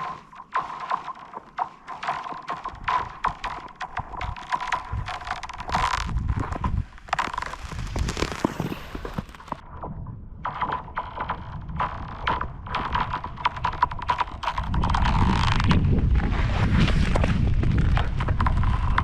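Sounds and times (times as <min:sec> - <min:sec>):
skate blades crackling on ice: 0:00.0 - 0:09.6, 0:10.6 - 0:19.0.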